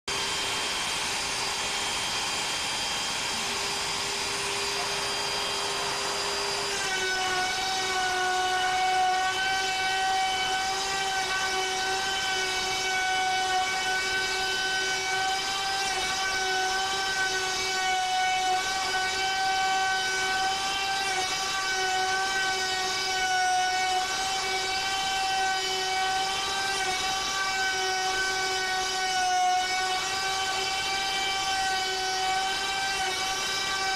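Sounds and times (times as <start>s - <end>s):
router spindle high whine milling wood: 0.1s - 33.9s.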